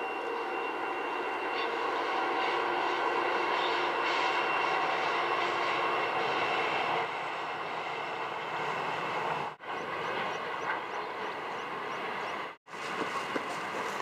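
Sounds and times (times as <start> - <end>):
diesel locomotives passing: 0.0 - 14.0.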